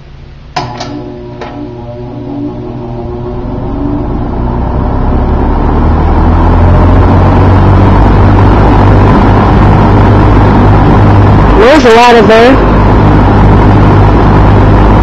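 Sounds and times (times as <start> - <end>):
box fan spinning: 0.0 - 15.0.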